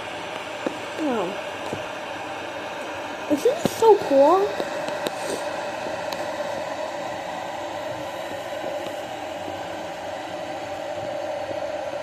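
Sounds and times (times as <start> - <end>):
electric kettle heating water: 0.0 - 12.0.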